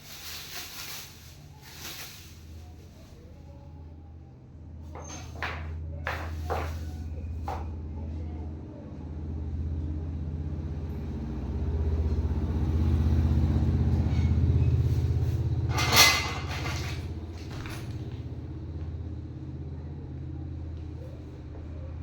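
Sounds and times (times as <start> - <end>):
motor rumbling: 0.0 - 22.0.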